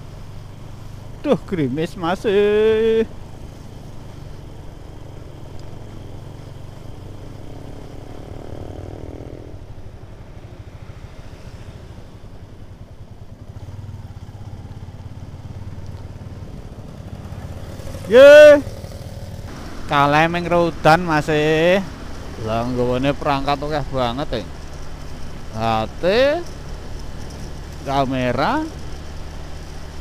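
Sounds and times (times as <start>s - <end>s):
motorcycle engine rumbling: 0.0s - 30.0s
road noise: 0.0s - 30.0s.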